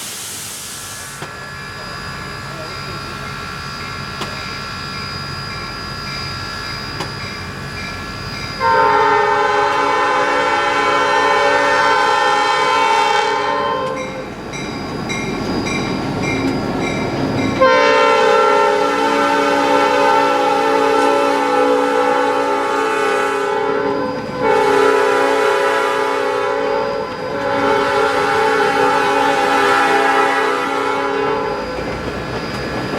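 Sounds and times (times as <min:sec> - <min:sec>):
steam locomotive chime whistle: 0:01.2 - 0:32.9.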